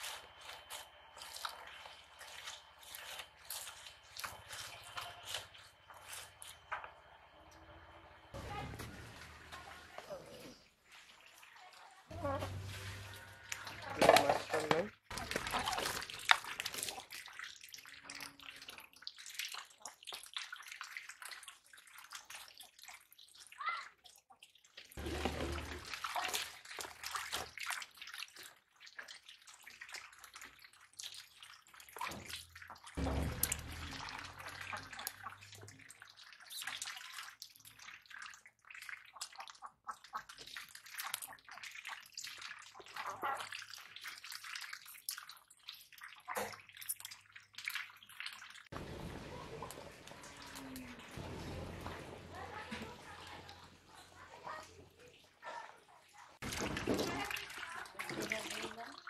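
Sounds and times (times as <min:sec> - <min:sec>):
water splashing and trickling: 0:00.0 - 0:59.0
heavy gushes of water: 0:08.3 - 0:24.0, 0:24.9 - 0:55.1, 0:56.4 - 0:59.0.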